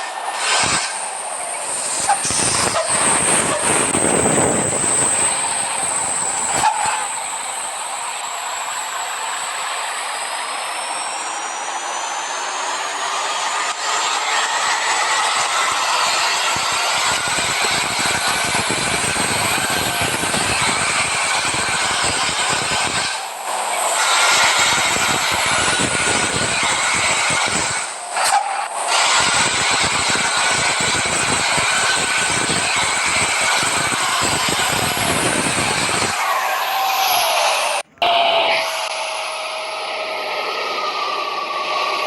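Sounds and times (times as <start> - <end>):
bus engine and exhaust: 0.0 - 42.0.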